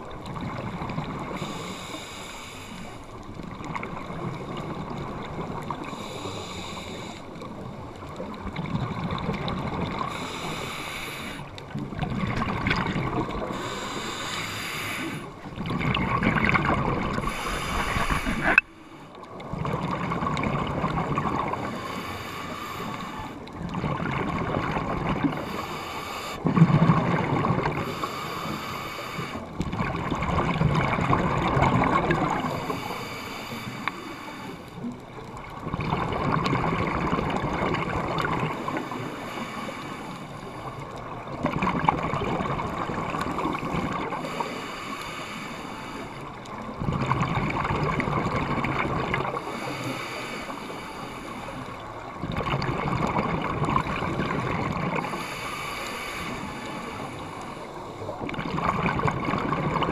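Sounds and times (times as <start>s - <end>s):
muffled underwater noise: 0.0s - 59.9s.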